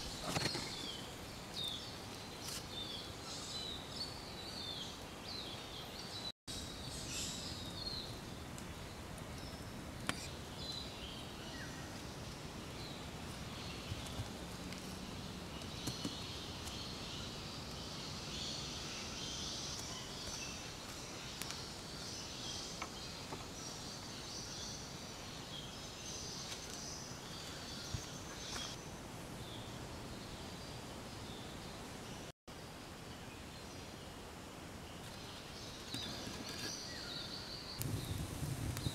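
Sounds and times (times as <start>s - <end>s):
forest insects and birds calling: 0.0s - 38.9s
soft hiss: 0.0s - 38.9s.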